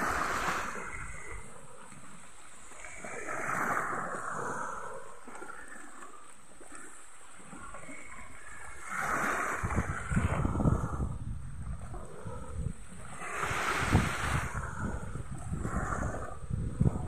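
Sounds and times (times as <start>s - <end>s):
small waves washing on sand: 0.0s - 17.0s.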